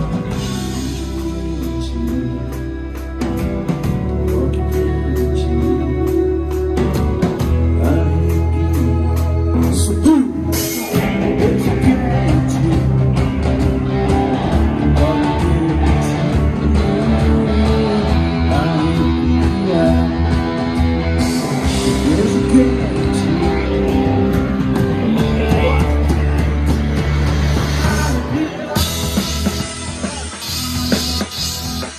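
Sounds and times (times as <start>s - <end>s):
bass: 0.0s - 31.9s
drums: 0.0s - 31.9s
electric guitars: 0.0s - 31.9s
person singing: 0.0s - 31.9s.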